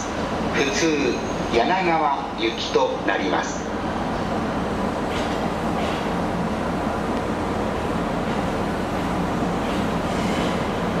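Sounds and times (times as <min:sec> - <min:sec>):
train wheels rumbling: 0:02.1 - 0:11.0.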